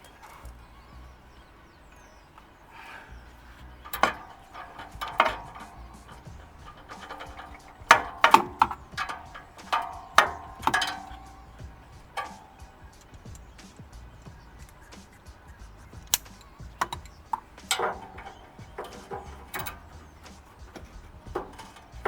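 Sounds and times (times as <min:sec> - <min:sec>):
hand tools clanking on metal: 0:00.0 - 0:22.0.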